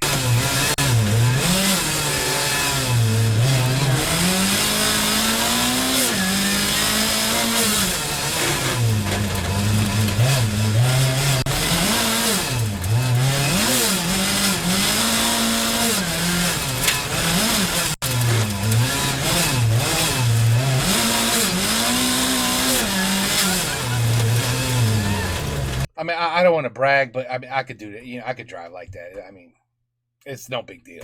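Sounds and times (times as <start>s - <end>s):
rally car engine at full throttle: 0.0s - 25.9s.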